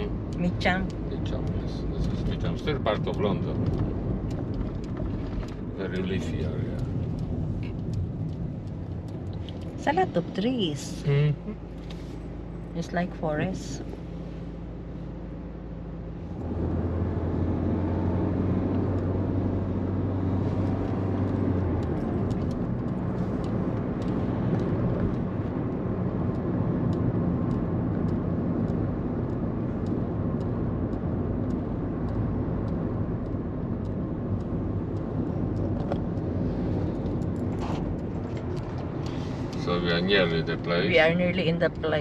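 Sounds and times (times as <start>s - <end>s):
car engine hum: 0.0s - 42.0s
tyre road noise: 0.0s - 42.0s.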